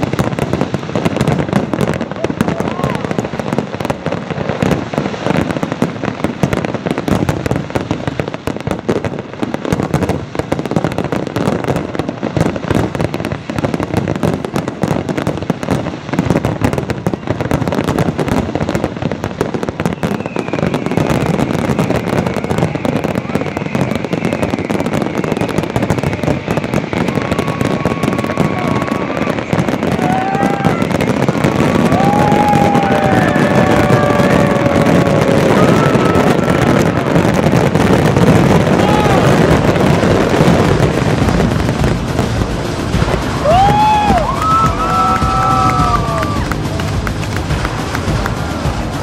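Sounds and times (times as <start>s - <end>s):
firework bursts and bangs: 0.0s - 49.0s
high whistling fireworks: 0.0s - 49.0s.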